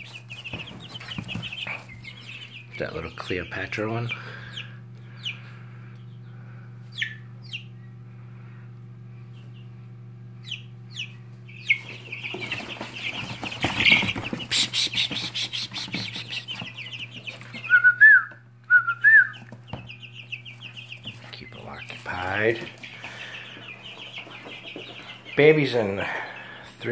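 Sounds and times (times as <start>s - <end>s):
chicks peeping: 0.0s - 26.9s
low hum: 0.0s - 26.9s.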